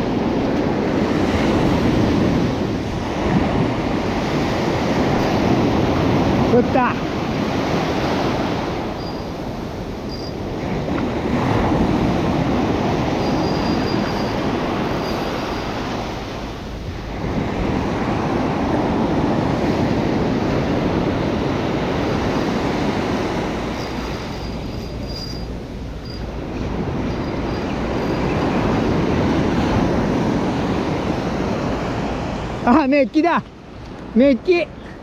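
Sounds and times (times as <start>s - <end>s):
surf breaking on beach: 0.0s - 33.3s.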